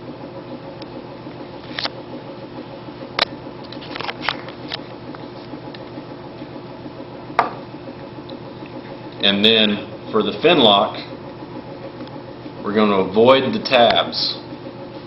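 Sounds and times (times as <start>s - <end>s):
fan-like room hum: 0.0s - 15.0s.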